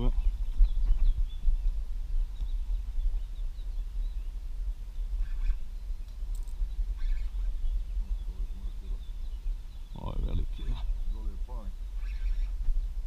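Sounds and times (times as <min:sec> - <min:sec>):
faint bird chirps: 0:00.0 - 0:13.0
wind rumble on microphone: 0:00.0 - 0:13.0.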